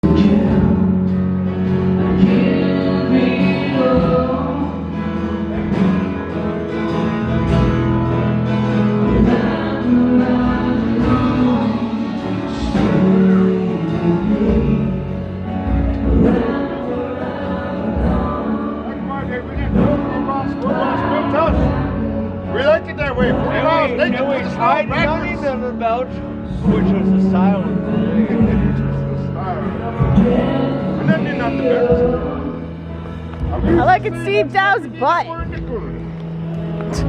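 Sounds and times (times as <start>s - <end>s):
music with choir singing: 0.0s - 25.4s, 26.1s - 34.0s.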